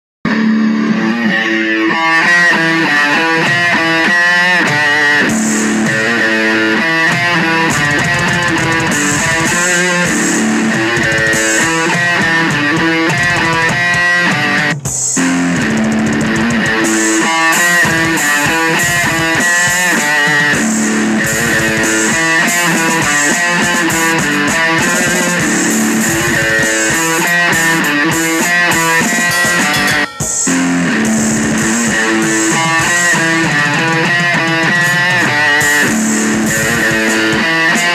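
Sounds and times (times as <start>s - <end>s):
electric guitar riffs: 0.3s - 37.9s
drum kit and crash cymbals: 2.4s - 37.9s.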